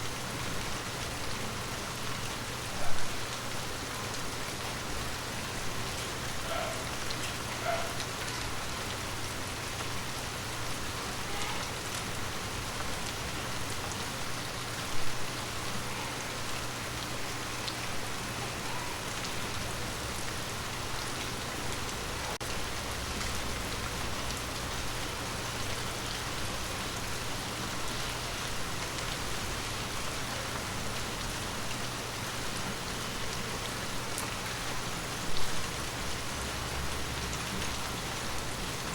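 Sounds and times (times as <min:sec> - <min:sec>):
rain pattering on leaves: 0:00.0 - 0:38.9.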